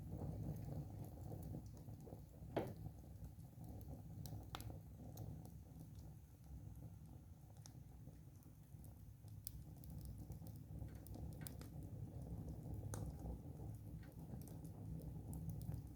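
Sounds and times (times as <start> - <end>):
wood fire crackling: 0.0 - 15.9.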